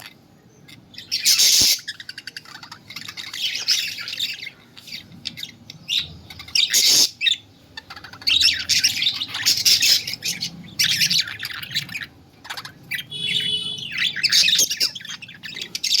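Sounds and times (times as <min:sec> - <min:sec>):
lovebirds screeching: 0:00.0 - 0:16.0.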